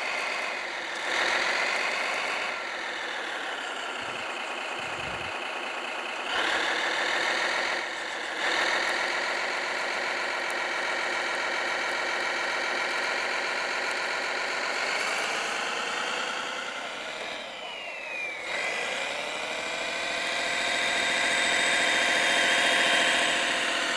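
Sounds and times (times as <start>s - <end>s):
engine sound from small speaker: 0.0s - 23.9s.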